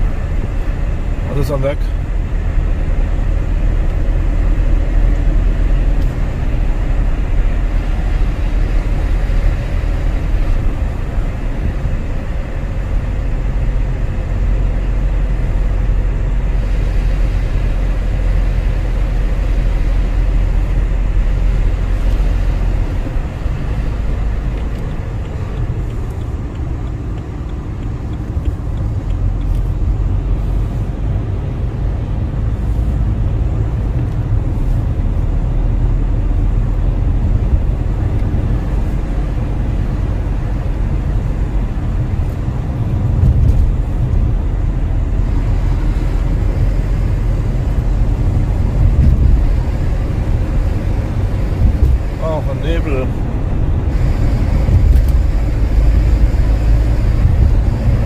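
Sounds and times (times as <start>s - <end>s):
car engine rumble: 0.0s - 58.0s
tyre road noise: 0.0s - 58.0s.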